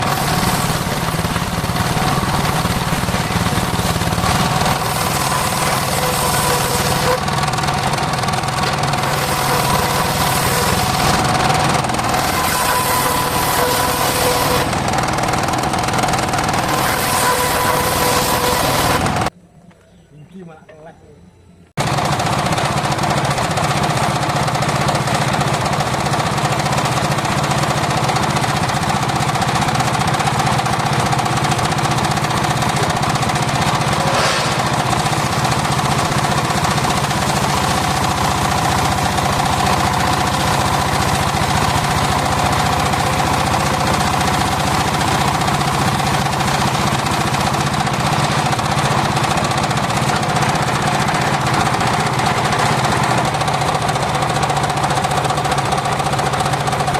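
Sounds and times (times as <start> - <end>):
circular saw sawing wood: 0.0 - 19.3, 26.9 - 56.9.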